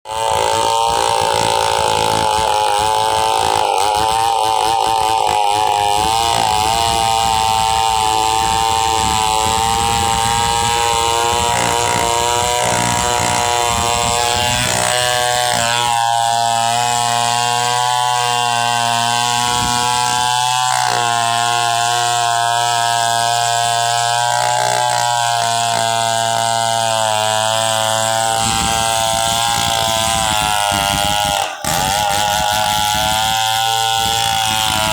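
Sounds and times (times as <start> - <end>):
chainsaw running at high speed: 0.0 - 34.9.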